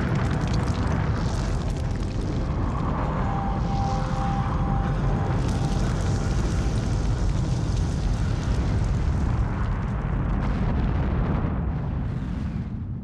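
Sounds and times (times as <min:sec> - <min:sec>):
deep volcanic rumble: 0:00.0 - 0:13.0.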